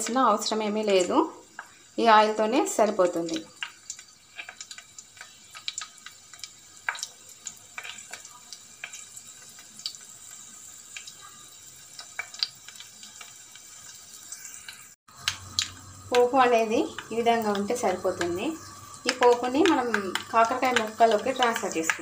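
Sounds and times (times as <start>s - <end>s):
hot oil sizzling and popping: 0.0s - 22.0s.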